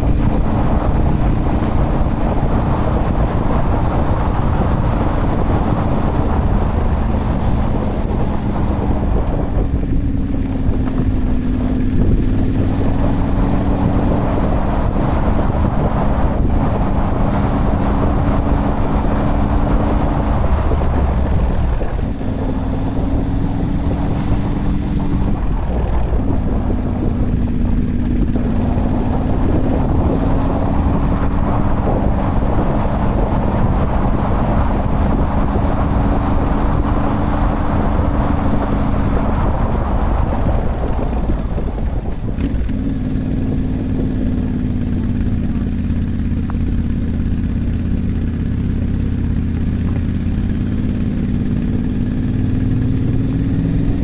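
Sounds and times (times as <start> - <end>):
motorcycle engine revving: 0.0 - 54.0
wind buffeting microphone: 0.0 - 54.0.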